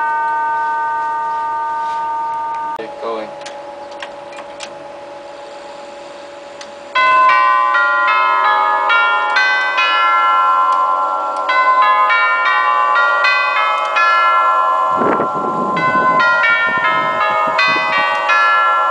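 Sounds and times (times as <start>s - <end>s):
tubular clock chimes: 0.0s - 3.7s, 6.9s - 18.9s.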